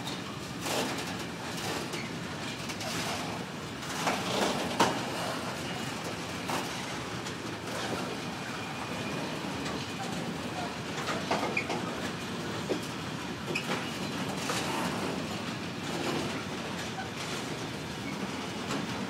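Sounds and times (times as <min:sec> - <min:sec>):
train wagons rattling on rails: 0:00.0 - 0:19.0.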